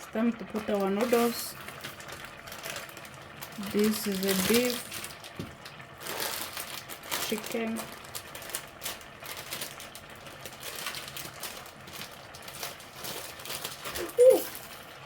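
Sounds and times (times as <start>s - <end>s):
soft clicks and crackles in pot: 0.1s - 15.0s.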